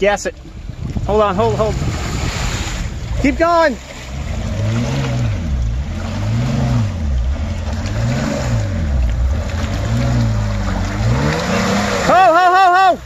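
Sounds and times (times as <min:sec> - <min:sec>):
engine revving under throttle: 0:01.4 - 0:12.5.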